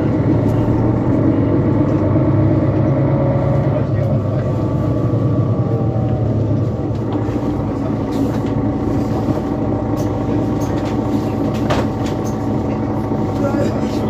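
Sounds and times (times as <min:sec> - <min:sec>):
bus diesel engine hum: 0:00.0 - 0:14.0.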